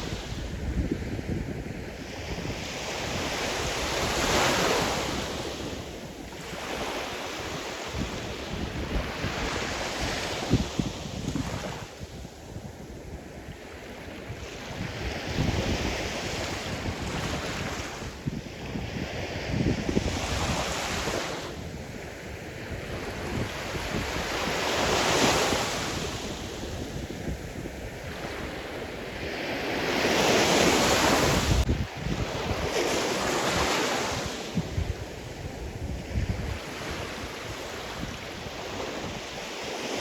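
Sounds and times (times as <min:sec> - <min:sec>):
waves breaking on shore: 0:00.0 - 0:12.2, 0:13.1 - 0:40.0.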